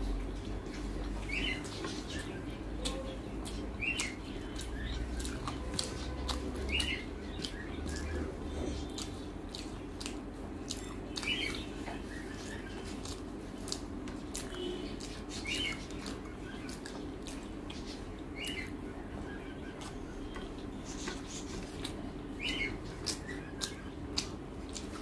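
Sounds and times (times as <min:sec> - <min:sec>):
fingers mixing food on a plate: 0:00.0 - 0:25.0
bird chirping: 0:00.1 - 0:13.7, 0:14.3 - 0:25.0
chewing and wet mouth clicks: 0:00.2 - 0:18.8, 0:19.7 - 0:25.0.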